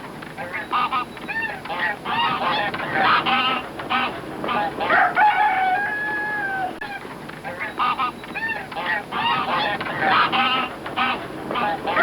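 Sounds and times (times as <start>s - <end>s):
goose honking: 0.4s - 12.0s.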